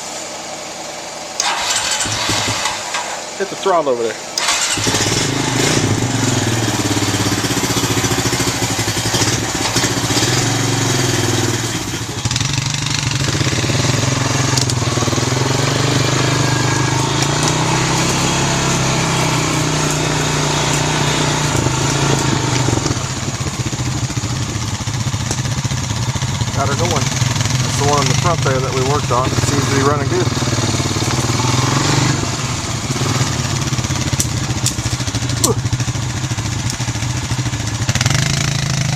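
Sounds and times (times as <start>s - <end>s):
atv engine running: 1.4s - 38.9s.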